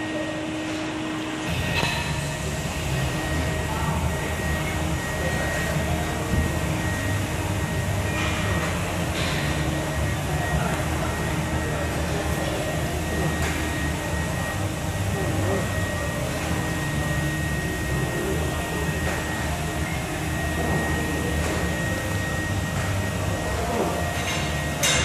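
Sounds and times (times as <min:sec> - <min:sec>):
gym background rumble: 0:00.1 - 0:25.0.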